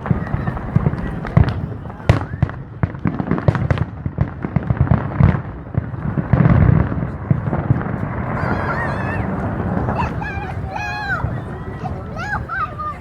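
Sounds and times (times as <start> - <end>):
continuous rumble: 0.0 - 13.0
fireworks bangs and booms: 0.0 - 13.0.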